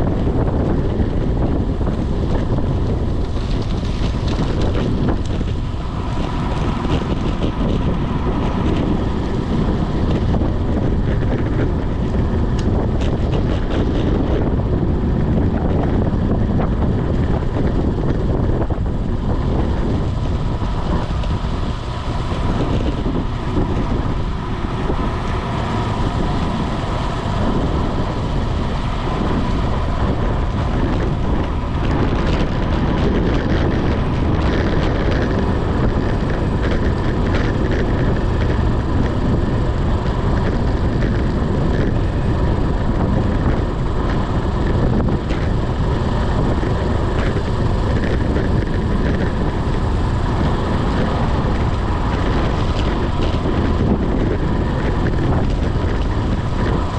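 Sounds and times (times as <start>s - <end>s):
road and tyre noise: 0.0s - 56.9s
wind buffeting microphone: 0.0s - 56.9s.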